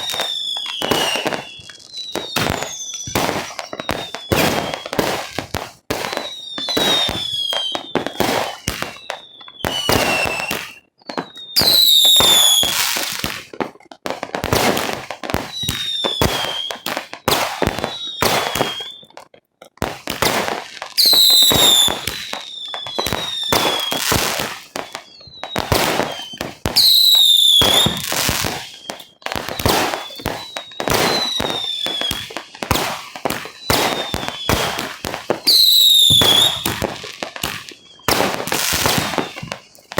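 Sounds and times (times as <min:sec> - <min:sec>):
firework whistles: 0:00.0 - 0:13.5, 0:14.4 - 0:19.2, 0:19.9 - 0:39.9
firework pops and bangs: 0:00.0 - 0:39.9.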